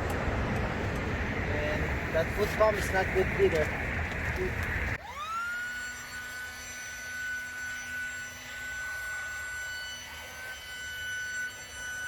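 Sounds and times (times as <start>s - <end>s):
electric air pump whining: 2.2s - 12.0s.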